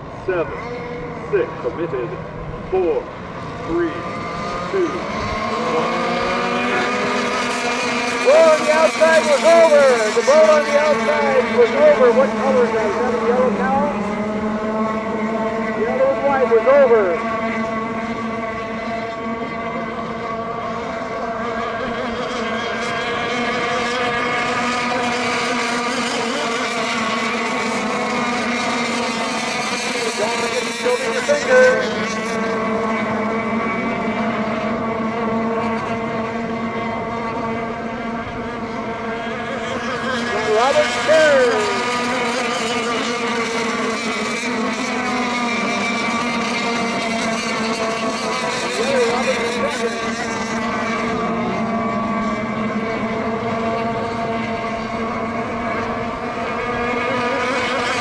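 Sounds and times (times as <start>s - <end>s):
racing boat motors whining: 0.0s - 58.0s.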